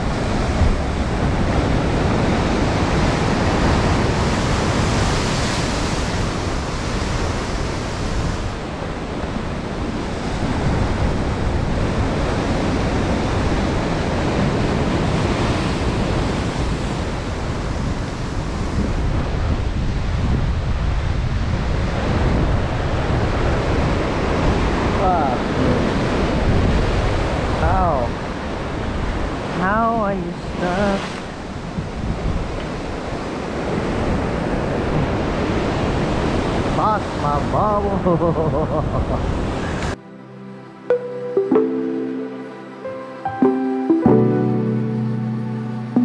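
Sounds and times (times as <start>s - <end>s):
wind rumbling on microphone: 0.0s - 40.0s
ocean surf washing ashore: 0.0s - 46.0s.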